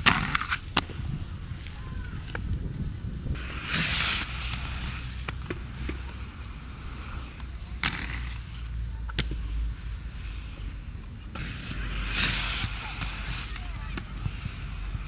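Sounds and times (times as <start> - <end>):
inline skates rolling on pavement: 0.0 - 15.0
skates clacking on ground: 0.0 - 15.0
skates scraping: 0.0 - 15.0.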